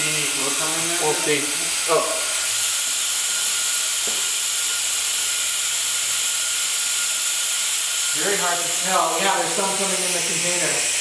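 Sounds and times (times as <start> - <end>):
compressed air hissing: 0.0 - 11.0.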